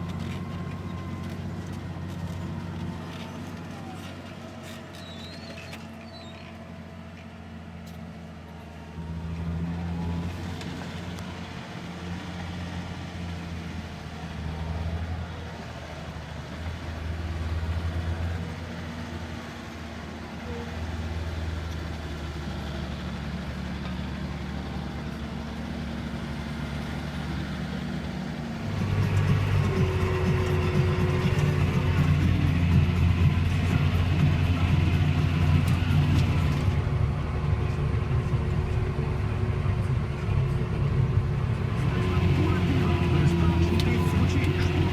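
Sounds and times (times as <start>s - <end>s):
tractor diesel engine droning: 0.0s - 44.9s.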